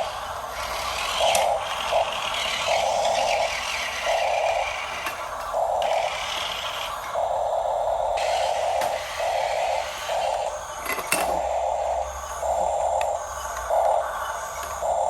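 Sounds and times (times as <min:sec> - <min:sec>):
electric motors and gears whirring: 0:00.0 - 0:15.0.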